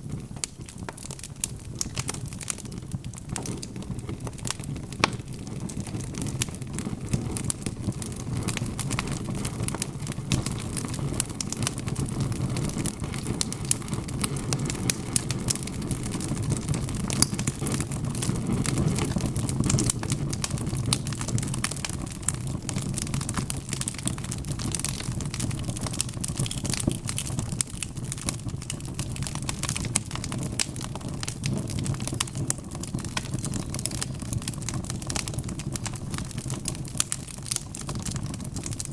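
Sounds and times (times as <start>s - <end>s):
fire low rumble: 0.0s - 38.9s
wood fire crackling: 0.0s - 38.9s.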